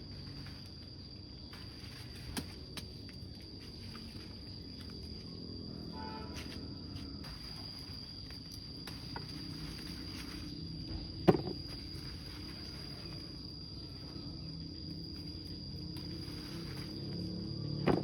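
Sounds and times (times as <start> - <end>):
high-pitched insect drone: 0.0 - 18.0
outdoor background noise: 0.0 - 18.0.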